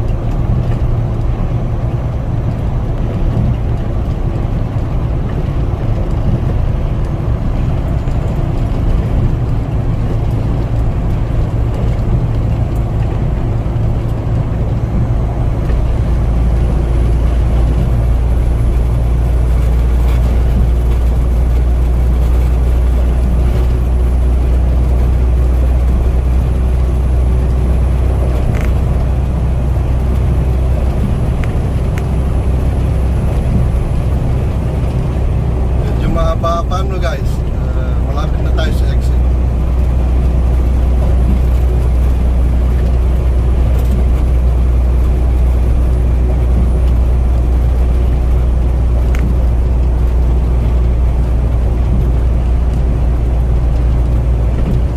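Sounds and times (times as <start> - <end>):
road noise: 0.0 - 54.9
truck engine drone: 0.0 - 54.9.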